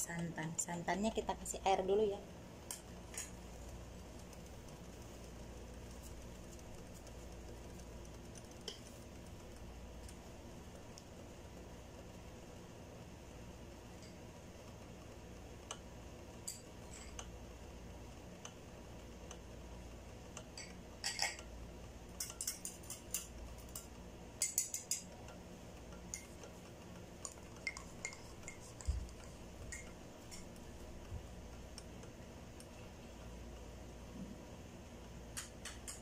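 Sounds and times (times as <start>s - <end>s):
syrup ticking and crackling: 0.0s - 36.0s.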